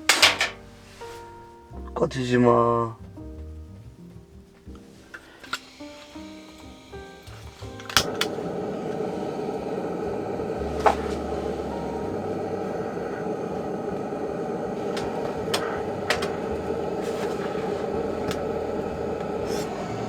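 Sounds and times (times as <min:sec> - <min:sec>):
wood stove fire rushing: 0:00.0 - 0:01.8, 0:03.7 - 0:20.0.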